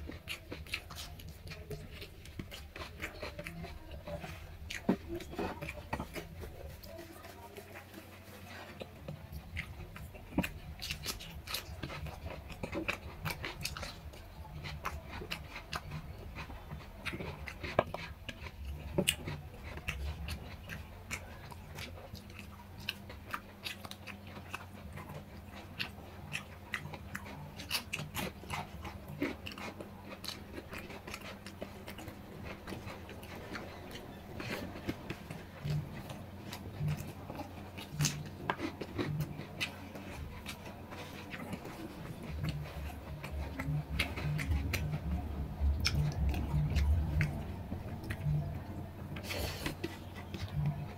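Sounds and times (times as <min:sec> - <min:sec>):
faint low hum: 0:00.0 - 0:50.9
wet chewing and lip smacks: 0:00.0 - 0:50.9.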